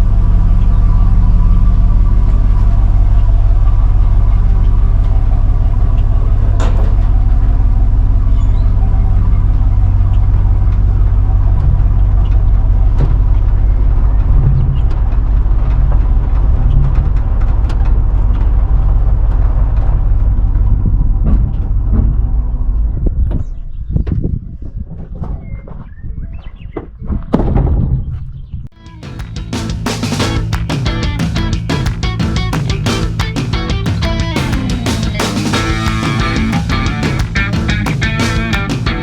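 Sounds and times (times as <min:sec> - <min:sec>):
truck engine running: 0:00.0 - 0:23.0, 0:28.8 - 0:39.0.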